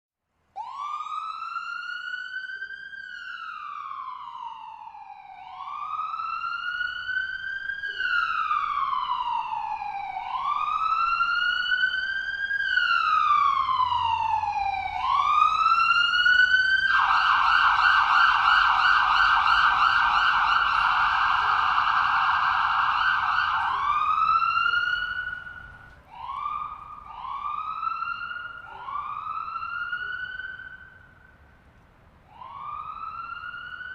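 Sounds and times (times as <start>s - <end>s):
ambulance siren: 0.5s - 33.9s.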